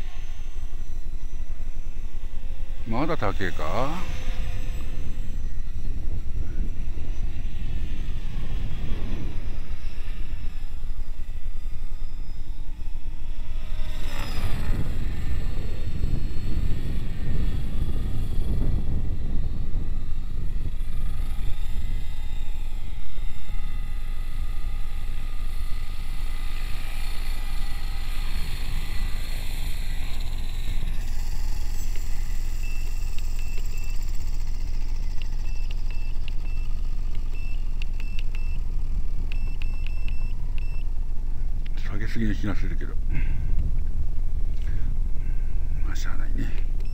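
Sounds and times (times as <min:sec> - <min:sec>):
model helicopter rotor whine: 0:00.0 - 0:46.9
steady low rumble: 0:00.0 - 0:46.9.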